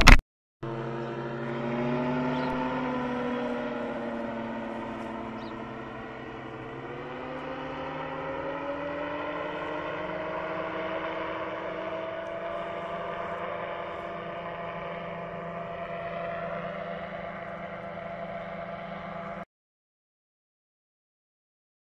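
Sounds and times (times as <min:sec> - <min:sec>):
paramotor engine drone: 0:00.0 - 0:19.5.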